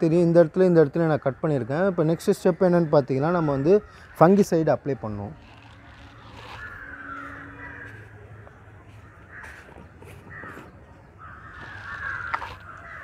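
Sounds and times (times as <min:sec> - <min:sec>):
crows cawing: 0:00.8 - 0:13.0.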